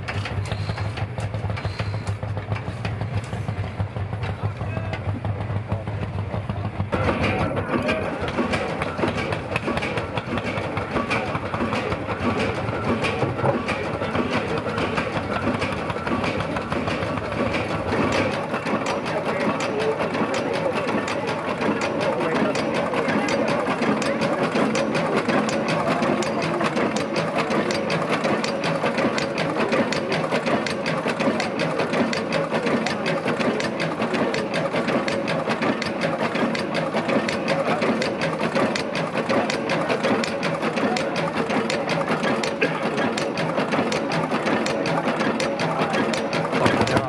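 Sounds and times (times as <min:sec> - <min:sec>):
stationary engine clattering: 0:00.0 - 0:47.0.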